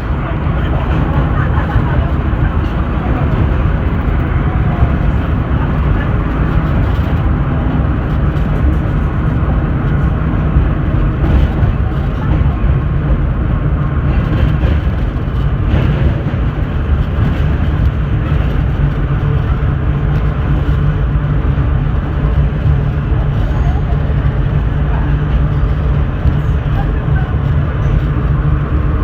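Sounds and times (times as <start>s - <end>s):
subway train rumbling: 0.0s - 29.0s.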